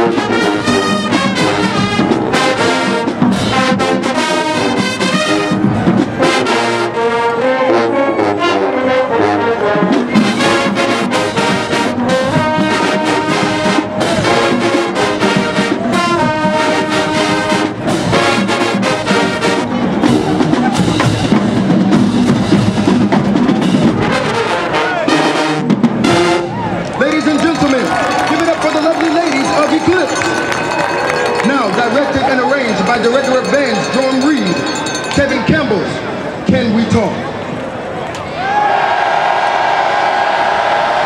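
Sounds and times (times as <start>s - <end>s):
marching band playing: 0.0s - 37.6s.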